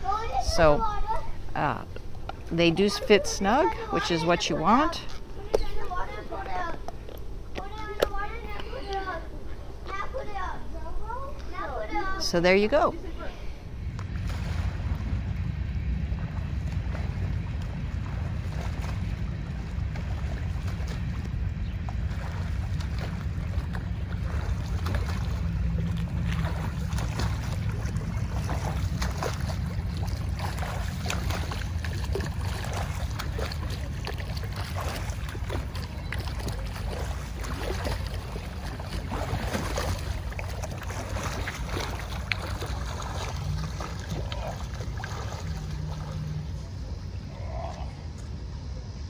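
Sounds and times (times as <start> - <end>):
swimmer splashing: 0.0 - 48.8
low steady rumble: 0.0 - 49.0.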